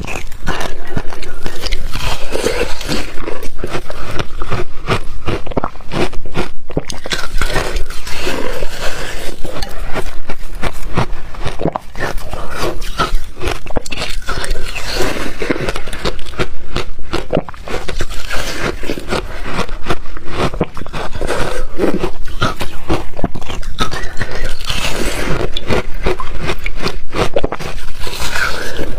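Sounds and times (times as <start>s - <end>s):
ice crunched by teeth: 0.0s - 28.9s.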